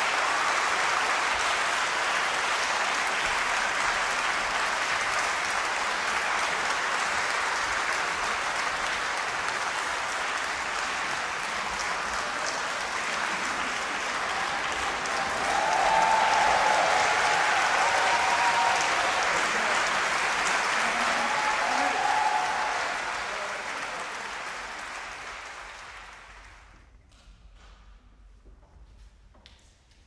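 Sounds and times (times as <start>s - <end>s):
audience applauding: 0.0s - 26.8s.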